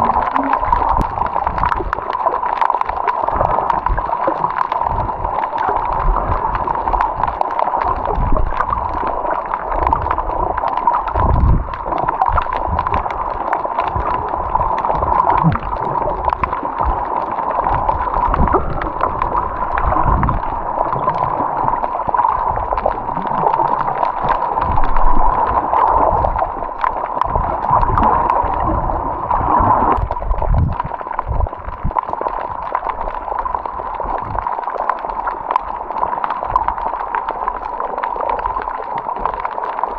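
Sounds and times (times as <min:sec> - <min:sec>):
water gurgling and sloshing: 0:00.0 - 0:39.9.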